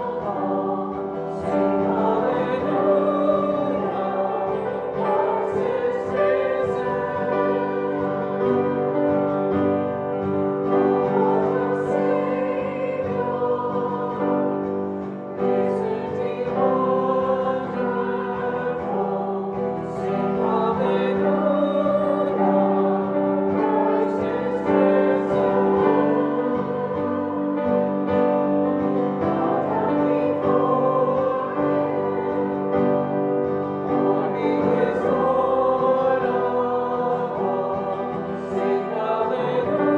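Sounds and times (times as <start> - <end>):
choir singing church music: 0.0 - 39.9
instrumental accompaniment: 0.0 - 39.9.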